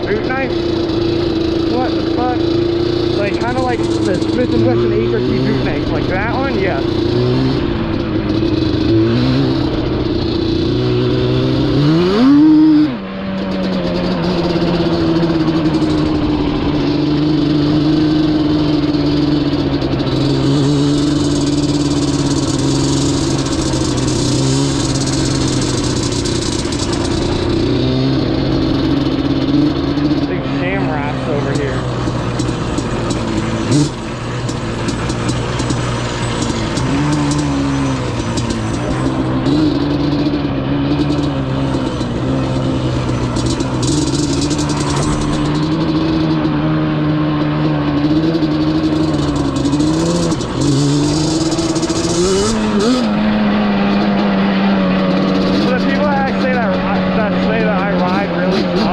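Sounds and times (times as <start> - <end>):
two-stroke engine revving: 0.0 - 58.9.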